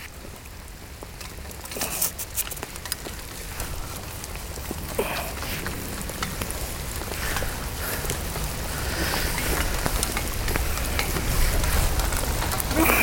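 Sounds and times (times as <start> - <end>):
heavy rain on plastic bag: 0.0 - 13.0.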